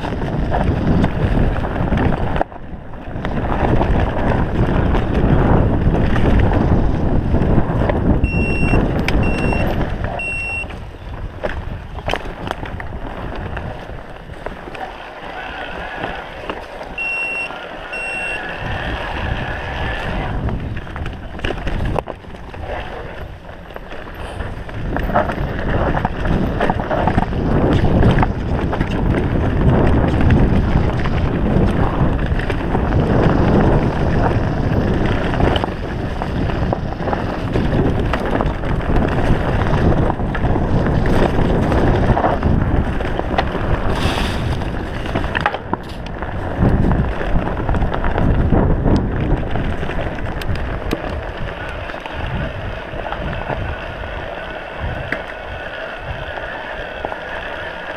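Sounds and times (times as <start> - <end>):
bike knocks and rattles: 0.0 - 14.7, 20.4 - 53.7
bike tyres rumbling over dirt: 0.0 - 57.9
wind buffeting microphone: 0.0 - 57.9.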